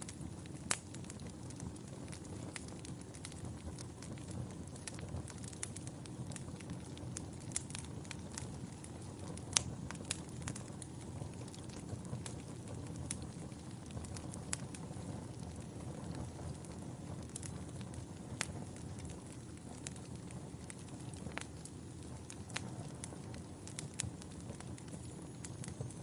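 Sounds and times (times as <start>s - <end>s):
burning logs crackling and popping: 0.0s - 26.0s
fire flame rumbling: 0.0s - 26.0s.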